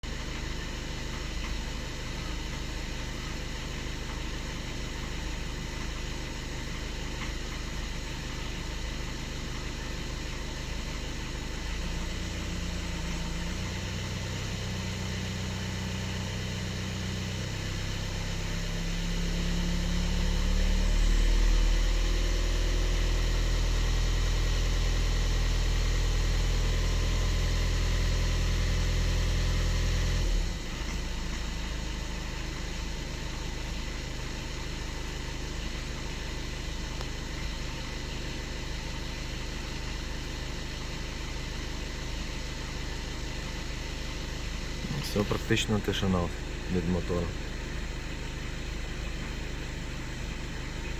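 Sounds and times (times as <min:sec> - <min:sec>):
diesel engine running with knock: 0:00.0 - 0:50.9.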